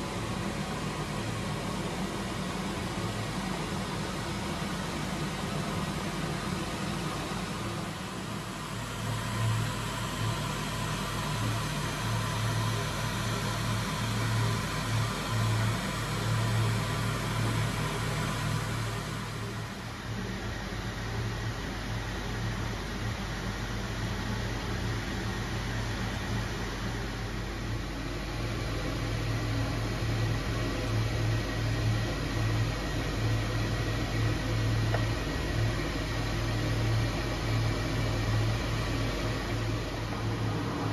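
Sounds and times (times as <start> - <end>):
workshop machinery hum: 0.0 - 40.9.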